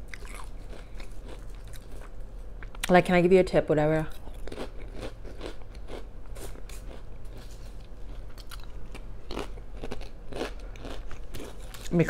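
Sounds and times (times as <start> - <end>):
chewing and crunching food: 0.0 - 3.0, 4.1 - 12.0.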